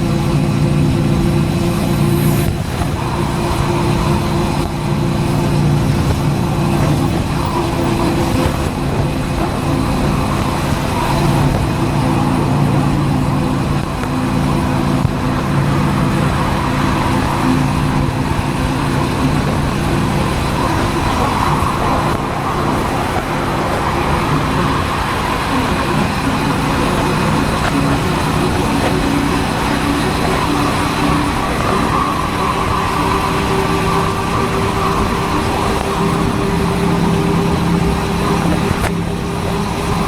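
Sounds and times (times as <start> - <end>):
motorcycle engine cruising: 0.0 - 40.0
wind and road noise: 0.0 - 40.0.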